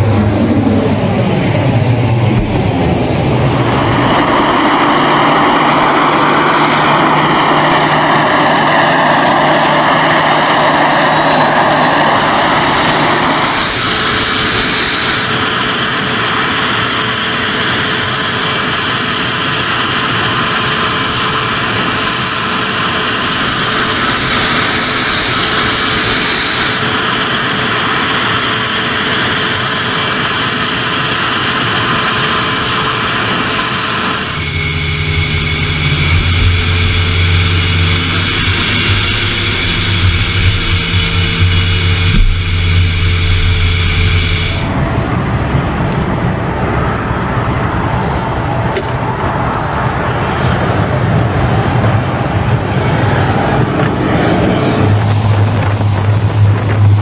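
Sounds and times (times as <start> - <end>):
jet turbine whine: 0.0 - 57.0
rushing jet noise: 0.0 - 57.0.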